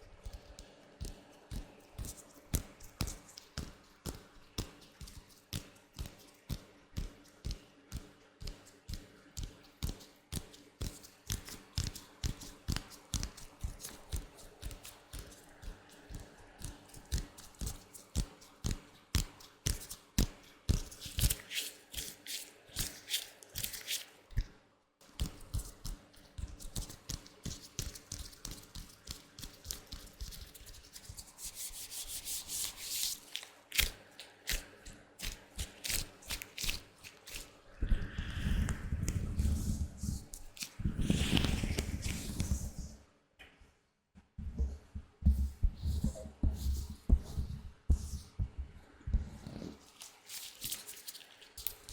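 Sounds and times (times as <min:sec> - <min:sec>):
latex gloves rubbing and tapping: 0:00.0 - 0:43.0, 0:44.2 - 0:51.9.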